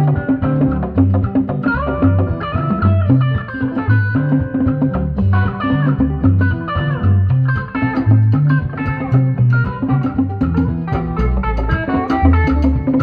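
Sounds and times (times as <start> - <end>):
bass line: 0.0 - 13.0
drums: 0.0 - 13.0
electric guitar melody runs: 0.0 - 13.0.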